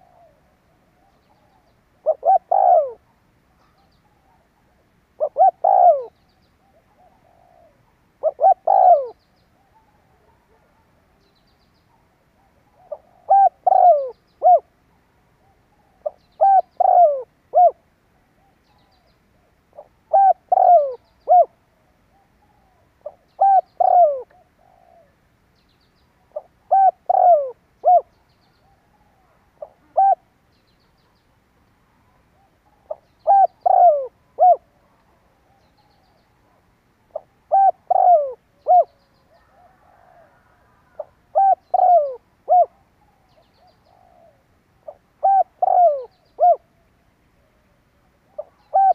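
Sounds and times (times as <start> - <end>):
dove cooing: 0.0 - 11.2, 11.9 - 14.7, 15.4 - 25.2, 26.2 - 30.3, 32.0 - 48.9.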